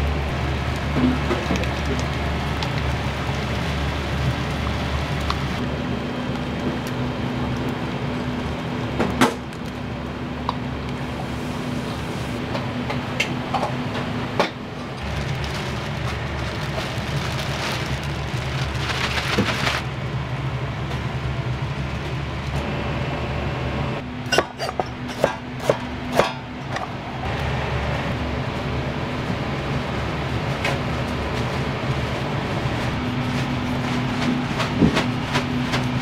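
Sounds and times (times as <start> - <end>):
burners and extractor fan rumble: 0.0 - 36.0.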